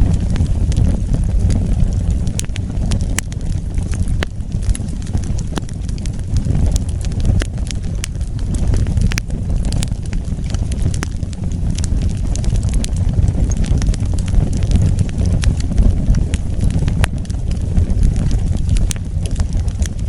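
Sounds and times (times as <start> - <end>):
low rumble of flames: 0.0 - 20.0
wood fire pops and crackles: 0.0 - 20.0.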